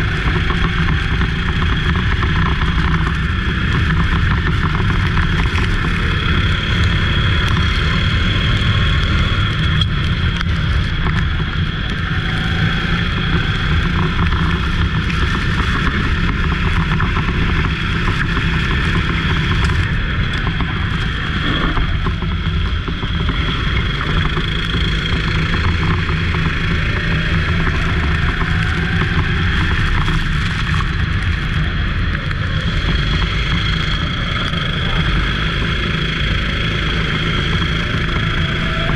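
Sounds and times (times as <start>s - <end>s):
go-kart engine running: 0.0s - 38.9s.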